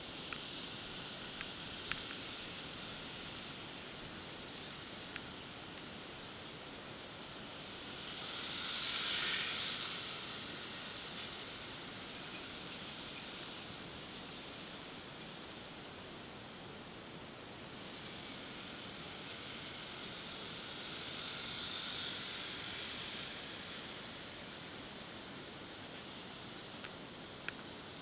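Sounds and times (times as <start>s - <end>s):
street traffic hiss: 0.0s - 28.0s.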